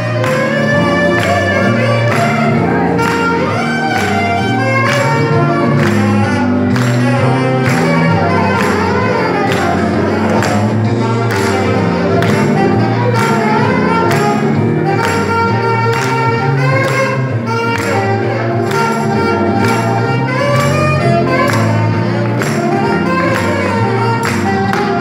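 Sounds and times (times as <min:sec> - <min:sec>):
bass line: 0:00.0 - 0:25.0
saxophone melody: 0:00.0 - 0:25.0.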